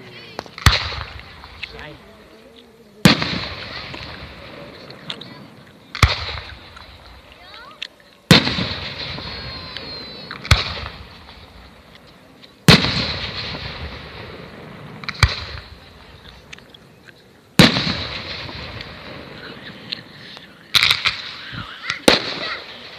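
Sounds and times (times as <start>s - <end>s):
fireworks bangs: 0.0s - 2.1s, 3.0s - 16.5s, 17.5s - 22.9s.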